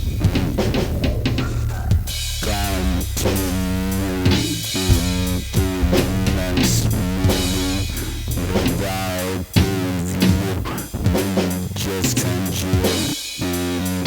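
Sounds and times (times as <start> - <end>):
bass guitar: 0.0 - 11.4
drum kit: 0.0 - 14.0.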